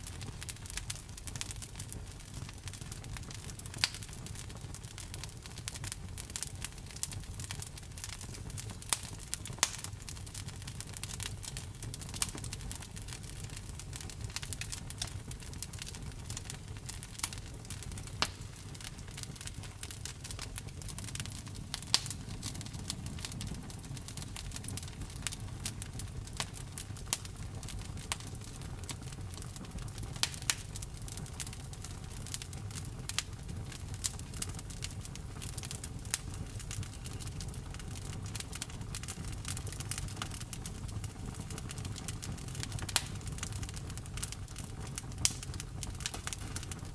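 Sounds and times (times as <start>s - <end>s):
burning wood popping and crackling: 0.0s - 46.9s
flames rumbling: 0.0s - 46.9s.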